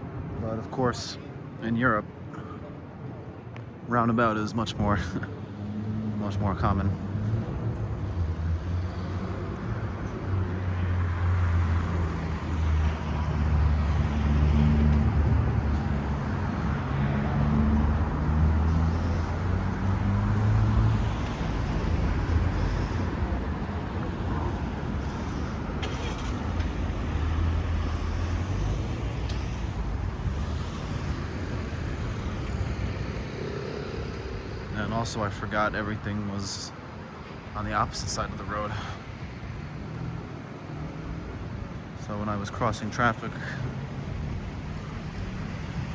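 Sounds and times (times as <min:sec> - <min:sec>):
tyre and road noise: 0:00.0 - 0:45.9
vehicle engines passing: 0:04.2 - 0:45.9.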